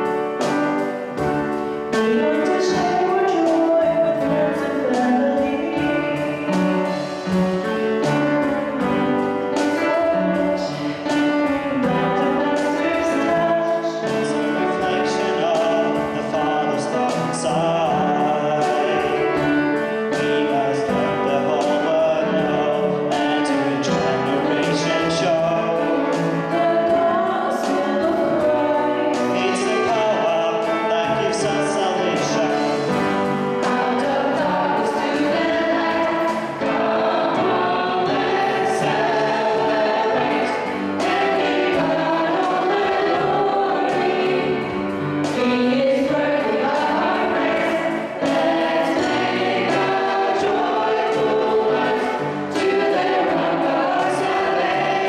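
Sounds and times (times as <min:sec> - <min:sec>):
band accompaniment: 0:00.0 - 0:55.0
youth choir singing: 0:01.2 - 0:55.0.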